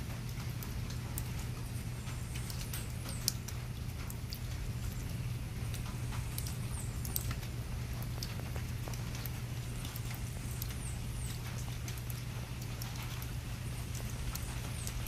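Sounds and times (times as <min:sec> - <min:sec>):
steady low hum: 0:00.0 - 0:15.0
water trickling over gravel: 0:00.0 - 0:15.0.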